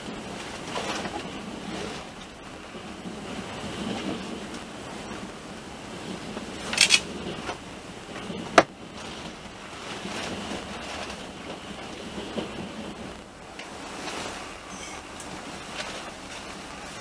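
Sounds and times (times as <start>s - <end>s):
train rolling and wind noise: 0.0s - 17.0s.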